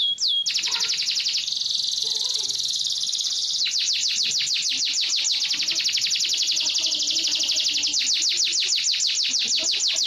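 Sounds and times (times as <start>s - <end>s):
canary singing: 0.0s - 10.0s.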